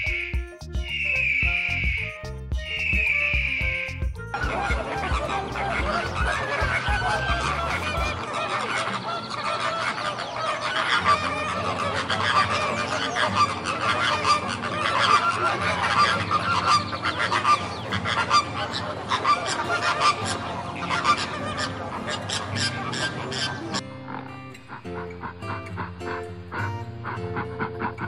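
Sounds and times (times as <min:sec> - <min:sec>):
flamingos honking: 0:00.0 - 0:28.0.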